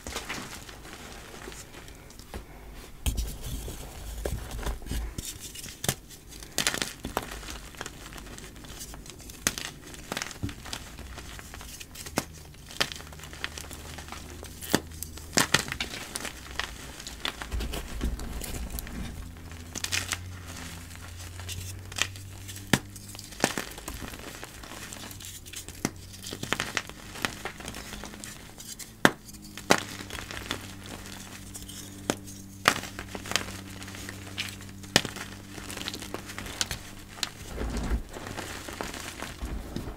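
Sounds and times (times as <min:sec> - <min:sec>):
chalk being crushed: 0:03.0 - 0:39.9.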